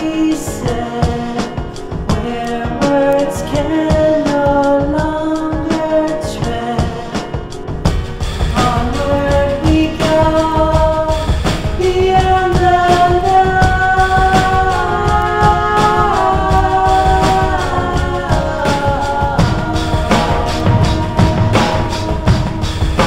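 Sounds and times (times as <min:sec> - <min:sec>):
background song with steady beat: 0:00.0 - 0:23.0.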